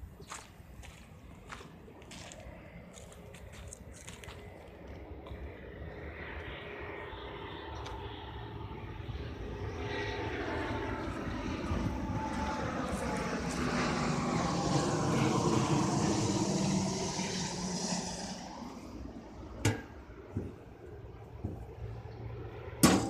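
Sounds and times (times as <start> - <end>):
aircraft flying over: 0.0 - 23.0.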